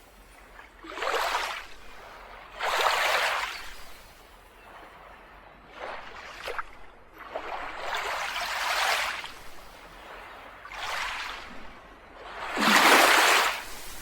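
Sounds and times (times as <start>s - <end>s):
small waves washing onto beach: 0.0s - 14.0s.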